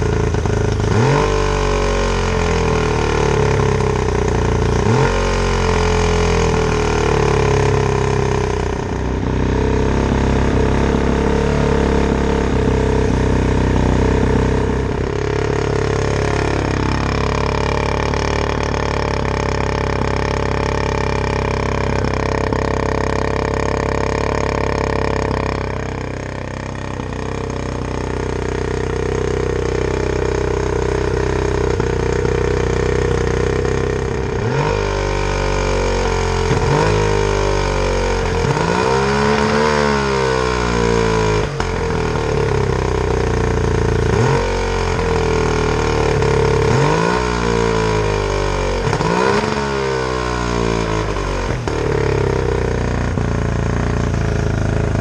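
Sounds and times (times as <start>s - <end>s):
outboard motor running: 0.0s - 50.1s, 50.7s - 55.0s.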